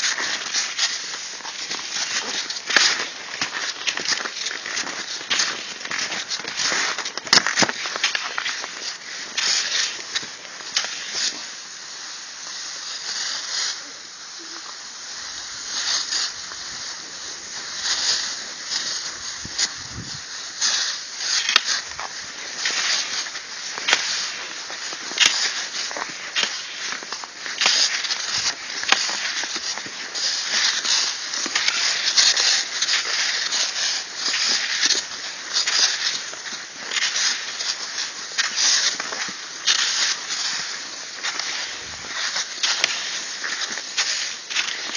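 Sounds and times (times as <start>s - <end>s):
skis hissing over snow: 0.0s - 44.9s.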